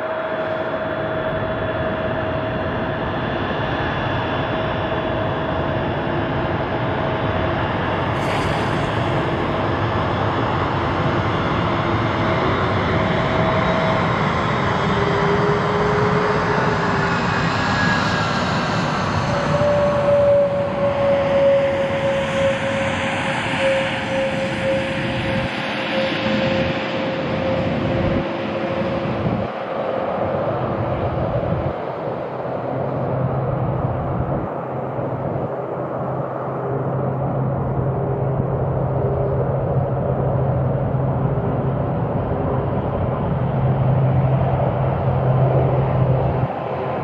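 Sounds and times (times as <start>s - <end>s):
jet engines rushing and whining: 0.0s - 47.0s.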